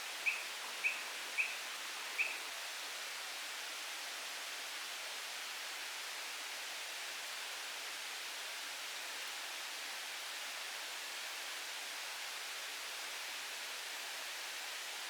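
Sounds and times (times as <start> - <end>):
forest background hiss: 0.0 - 15.0.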